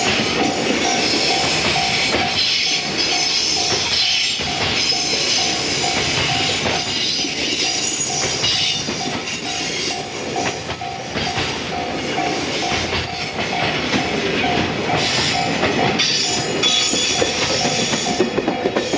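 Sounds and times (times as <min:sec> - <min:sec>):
hissing rail noise: 0:00.0 - 0:18.9
train wheels clattering over rail joints: 0:00.0 - 0:18.9.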